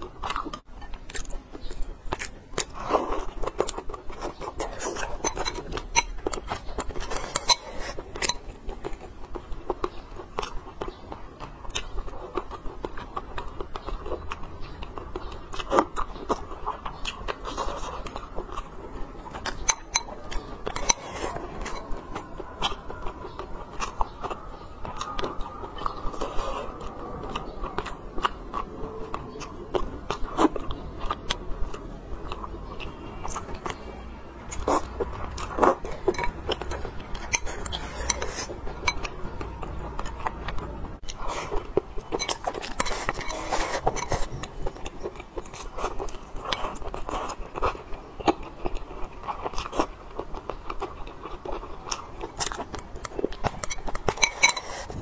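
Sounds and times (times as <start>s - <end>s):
close chewing and mouth sounds: 0.0s - 55.0s.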